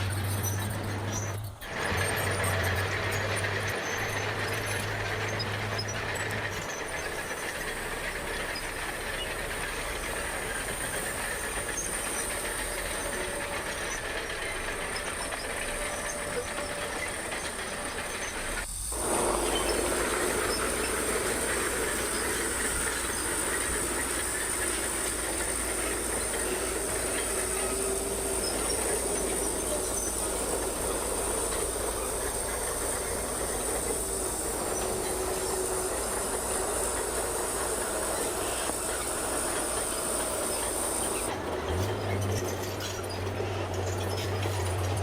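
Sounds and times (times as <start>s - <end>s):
bulldozer engine and tracks din: 0.0s - 45.0s.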